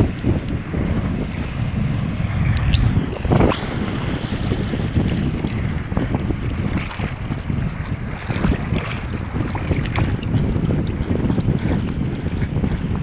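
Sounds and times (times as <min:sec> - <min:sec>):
wind buffeting microphone: 0:00.0 - 0:13.0
water splashing and slapping: 0:02.6 - 0:13.0.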